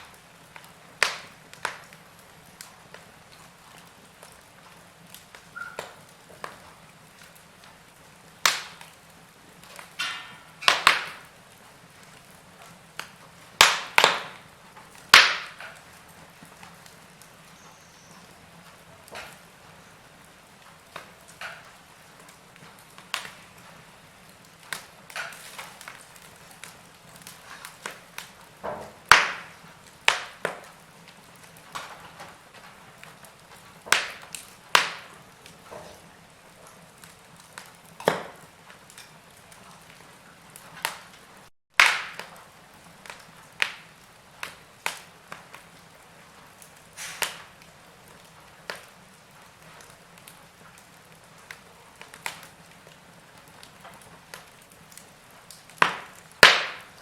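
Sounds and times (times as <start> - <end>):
log fire crackling: 0.0 - 57.0.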